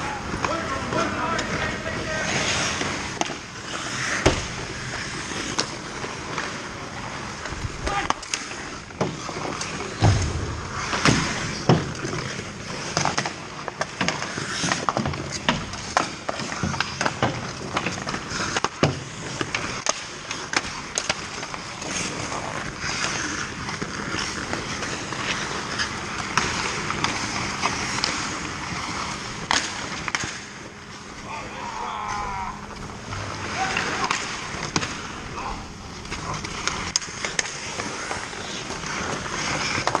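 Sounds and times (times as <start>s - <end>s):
skate blades scraping ice: 0.0s - 40.0s
sticks and puck clacking: 0.0s - 40.0s.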